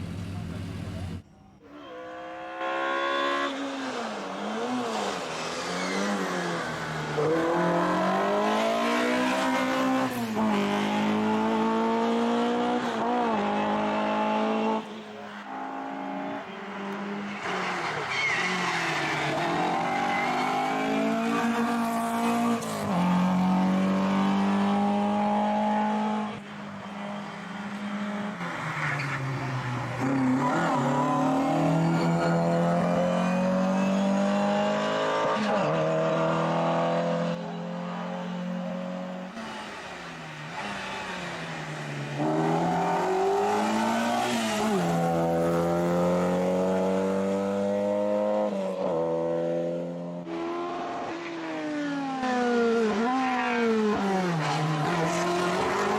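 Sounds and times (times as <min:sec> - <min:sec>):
race car engine at full throttle: 0:01.8 - 0:55.9.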